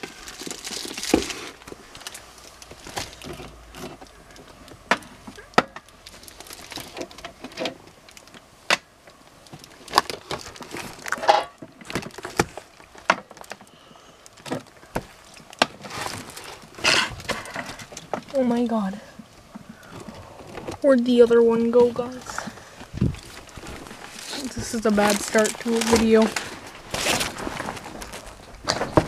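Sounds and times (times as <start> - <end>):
objects being handled: 0.0 - 29.0.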